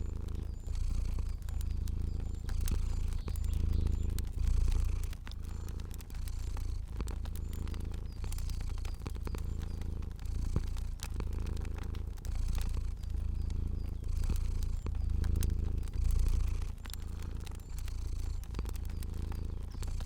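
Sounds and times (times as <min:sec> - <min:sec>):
cat purring: 0:00.0 - 0:20.0
fire crackling and popping: 0:00.0 - 0:20.0.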